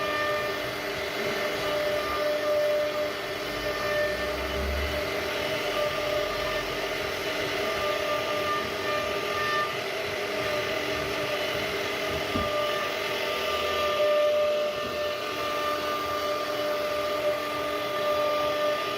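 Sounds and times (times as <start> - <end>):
router spindle cutting wood: 0.0 - 18.9.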